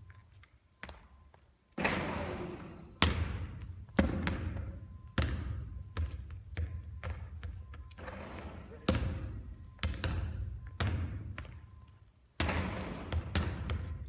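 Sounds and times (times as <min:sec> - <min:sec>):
basketball bouncing on gym floor: 0:01.8 - 0:14.0.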